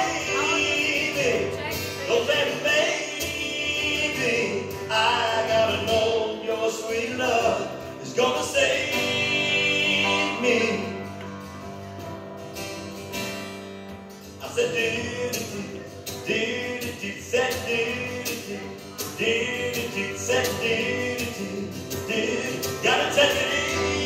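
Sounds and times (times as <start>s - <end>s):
man singing into microphone: 0.0s - 11.2s, 14.4s - 24.0s
acoustic guitar: 0.0s - 24.0s
keyboard: 0.0s - 24.0s.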